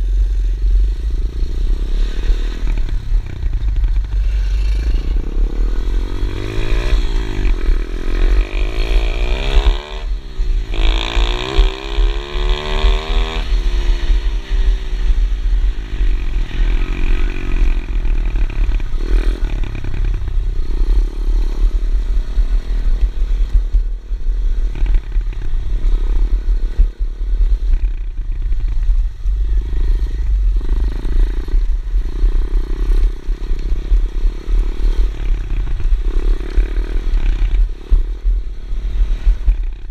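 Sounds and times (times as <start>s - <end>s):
heavy low rumble: 0.0s - 39.9s
motorbike engine revving: 0.0s - 39.9s.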